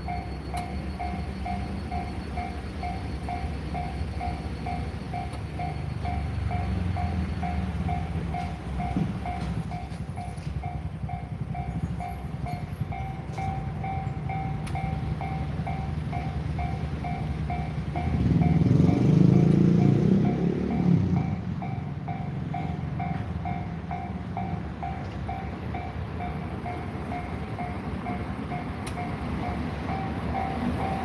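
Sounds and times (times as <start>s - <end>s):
level-crossing warning bell: 0.0s - 31.0s
passing train rumble: 0.0s - 31.0s.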